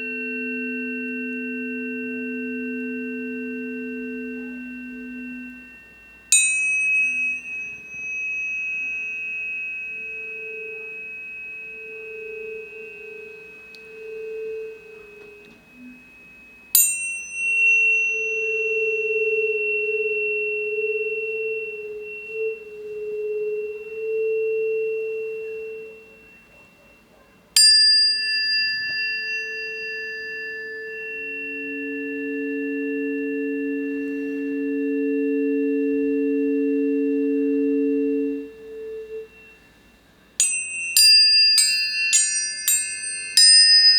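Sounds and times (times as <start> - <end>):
tuning fork metallic tap: 0.0 - 39.6
tuning forks ringing tones: 0.0 - 43.9.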